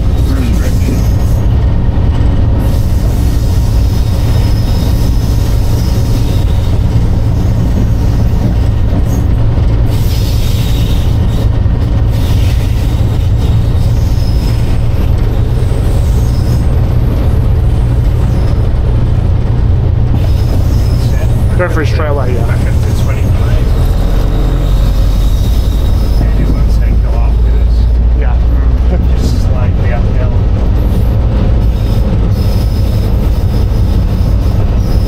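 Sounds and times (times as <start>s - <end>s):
locomotive engine drone: 0.0s - 35.0s
rail noise: 0.0s - 35.0s.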